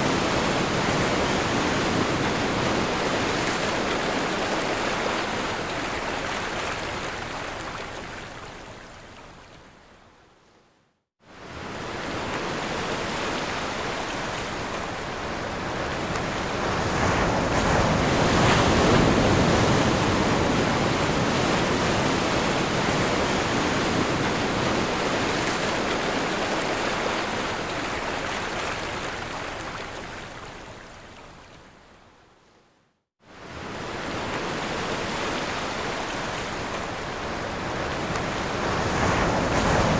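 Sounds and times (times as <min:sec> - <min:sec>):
ocean waves breaking on shore: 0:00.0 - 0:09.6, 0:11.2 - 0:31.6, 0:33.2 - 0:39.9.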